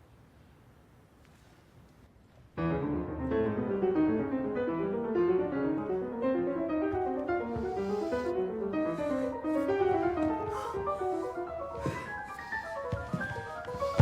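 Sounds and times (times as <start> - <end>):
piano music: 2.6 - 14.0.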